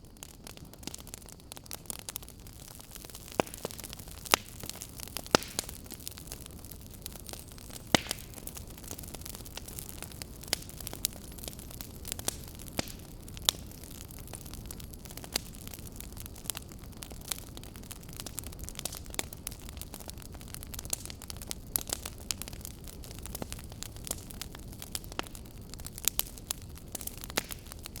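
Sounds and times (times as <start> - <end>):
fire crackling: 0.0 - 28.0.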